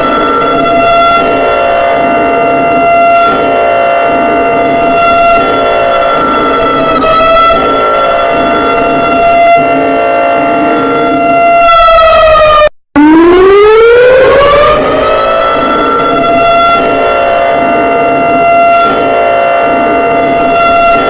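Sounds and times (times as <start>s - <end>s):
alarm siren wailing: 0.0s - 21.0s.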